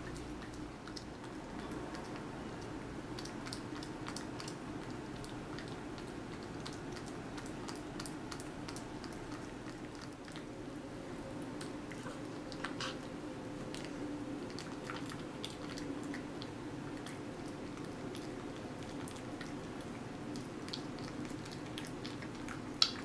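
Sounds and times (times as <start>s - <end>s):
cat chewing and licking: 0.0s - 23.0s
steady hum: 0.0s - 23.0s.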